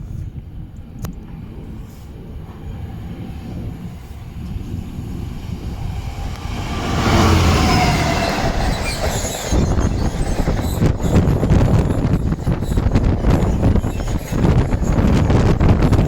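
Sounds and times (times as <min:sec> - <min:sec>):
train passing at speed: 0:00.2 - 0:16.0
wheels squealing: 0:02.6 - 0:16.0.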